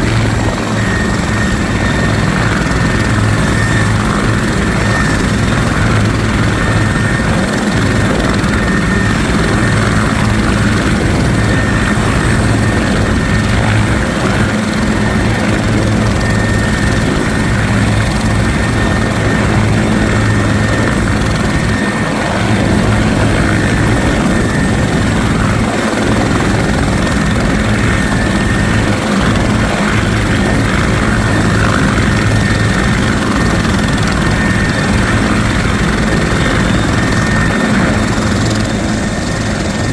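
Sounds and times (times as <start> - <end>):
helicopter rotor beat: 0.0 - 39.9
high turbine whine: 0.0 - 39.9.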